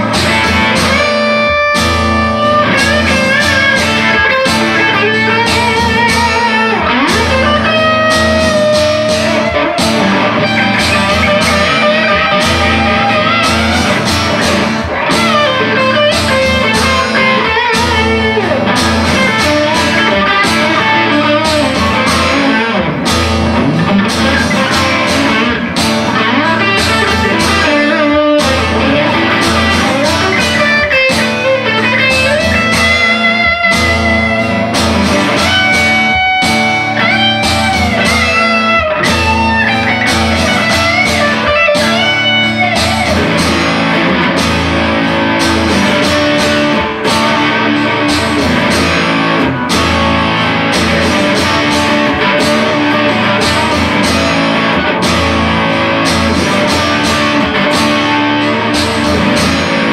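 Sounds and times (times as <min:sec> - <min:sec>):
electric guitar playing: 0:00.0 - 0:59.9.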